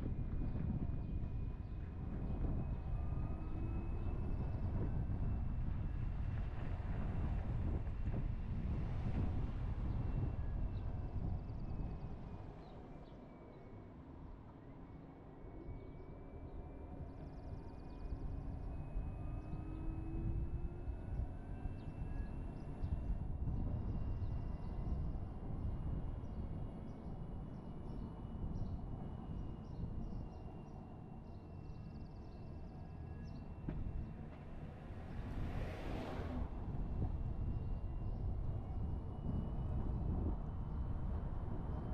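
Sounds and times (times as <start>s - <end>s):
car road and wind rumble: 0.0s - 12.6s, 17.6s - 41.9s.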